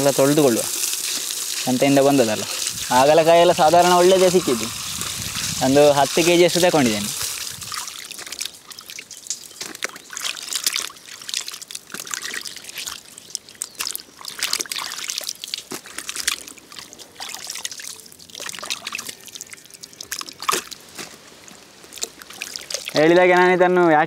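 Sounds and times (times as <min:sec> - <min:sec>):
water splashing in steel basin: 0:00.0 - 0:20.9, 0:21.9 - 0:23.1
water dripping and trickling: 0:00.0 - 0:23.5.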